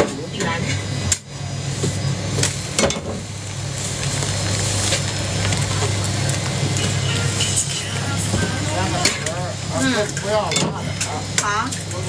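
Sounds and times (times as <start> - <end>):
steady hiss: 1.6 - 12.0.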